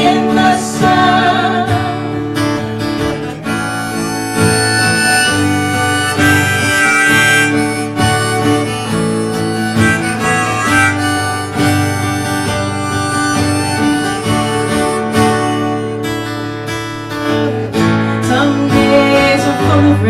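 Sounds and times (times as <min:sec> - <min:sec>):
harmonica solo: 0:00.0 - 0:18.2
strummed acoustic guitar: 0:00.0 - 0:20.0.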